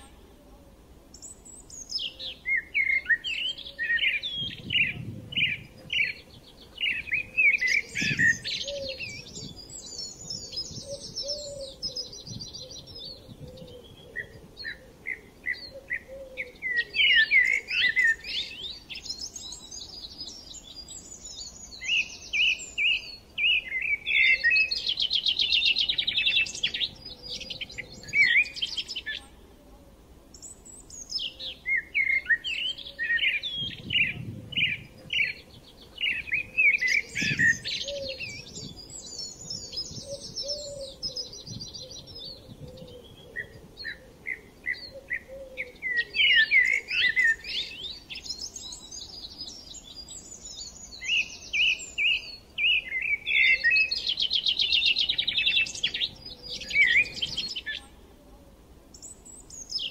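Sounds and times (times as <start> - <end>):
small birds chirping and trilling: 1.1 - 29.5, 30.3 - 58.1, 58.9 - 59.9.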